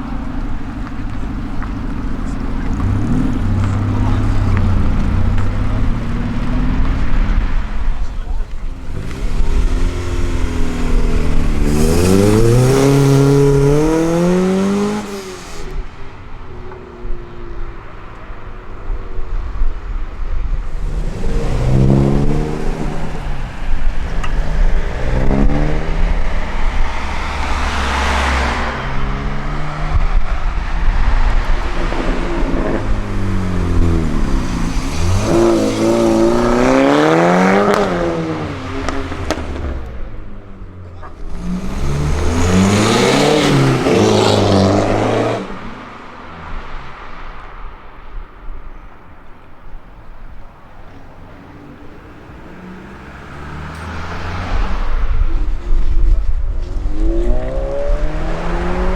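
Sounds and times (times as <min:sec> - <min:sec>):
engines accelerating hard: 0:00.0 - 0:48.0, 0:50.2 - 0:58.9
low engine rumble: 0:00.0 - 0:58.9.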